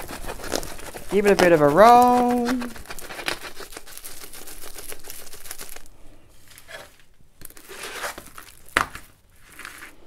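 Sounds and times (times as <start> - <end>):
plastic-wrapped canvas crinkling: 0.0 - 10.0.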